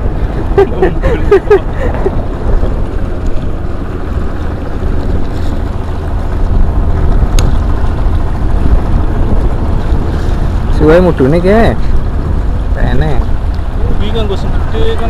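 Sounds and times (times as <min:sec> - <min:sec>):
choppy sea against seawall: 0:00.0 - 0:15.0
wind buffeting microphone: 0:00.0 - 0:15.0.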